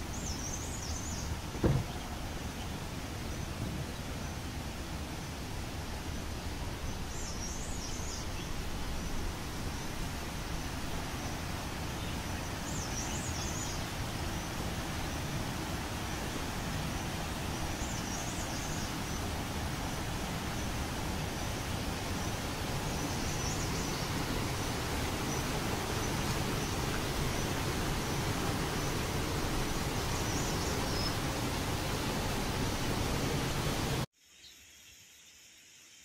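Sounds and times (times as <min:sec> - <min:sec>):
rushing outdoor noise: 0:00.0 - 0:34.1.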